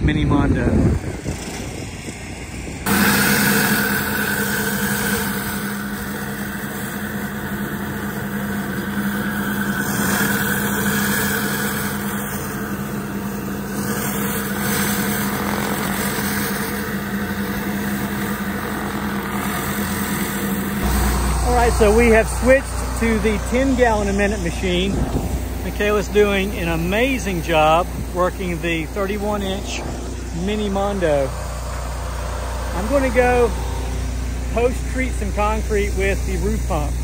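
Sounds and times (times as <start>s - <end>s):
pressure washer engine running: 0.1s - 37.0s
water spray hissing on concrete: 2.9s - 37.0s.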